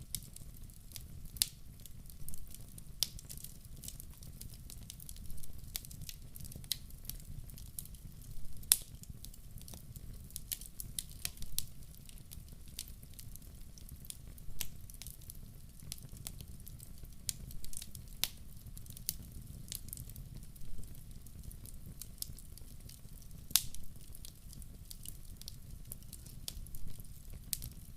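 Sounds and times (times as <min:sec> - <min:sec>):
low rumble of flame: 0:00.0 - 0:27.9
wood fire crackling and popping: 0:00.0 - 0:27.9.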